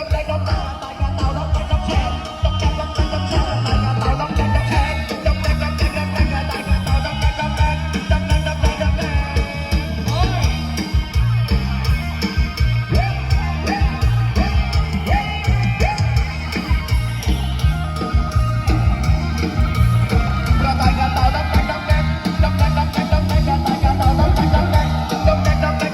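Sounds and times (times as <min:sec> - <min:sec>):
live procession band music: 0:00.0 - 0:25.9.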